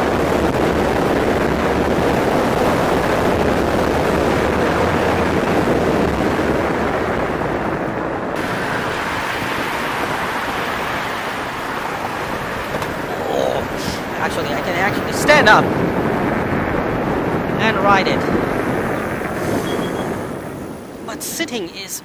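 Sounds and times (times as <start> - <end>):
scooter road noise on asphalt: 0.0 - 22.0
wind rushing over microphone: 0.0 - 22.0.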